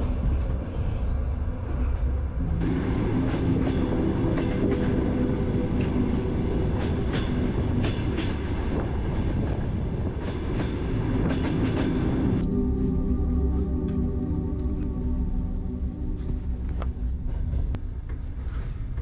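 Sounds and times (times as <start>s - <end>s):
train clicks: 0.0s - 12.6s, 16.2s - 19.0s
train rumbling: 0.0s - 19.0s.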